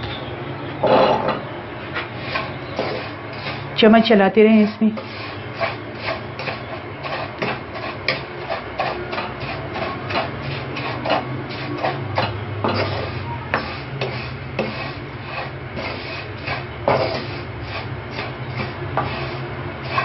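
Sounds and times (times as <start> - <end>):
wooden spatula scraping a pan: 1.9 - 20.0.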